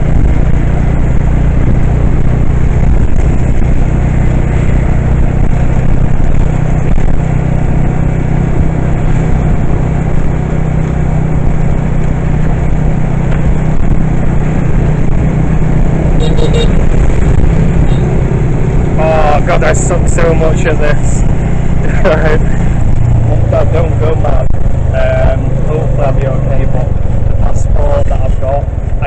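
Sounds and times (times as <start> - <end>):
road noise: 0.0 - 29.0
vehicle engine hum: 0.0 - 29.0.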